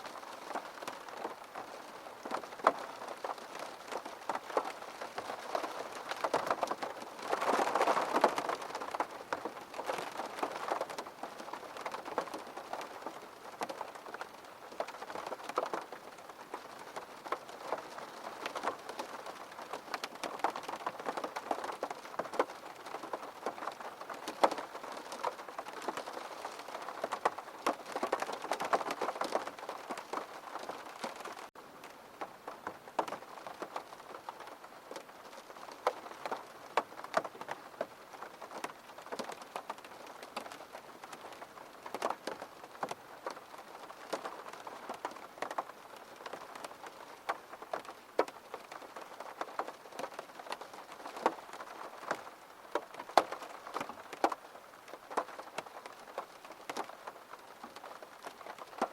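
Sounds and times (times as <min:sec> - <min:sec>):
raindrops tapping close by: 0:00.0 - 0:58.9
steady rain falling: 0:00.0 - 0:58.9.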